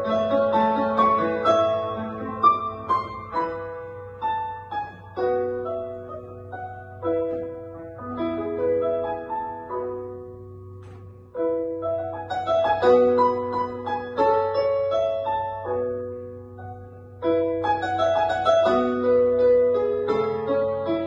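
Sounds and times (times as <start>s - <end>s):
digital piano melody: 0.0s - 21.0s.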